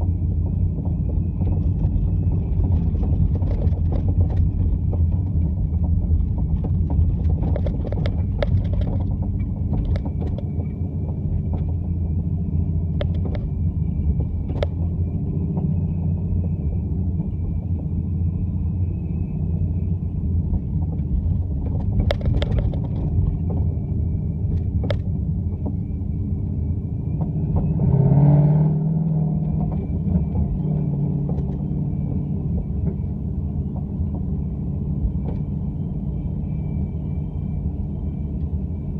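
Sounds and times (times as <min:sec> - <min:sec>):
boat engine rumbling: 0:00.0 - 0:38.9.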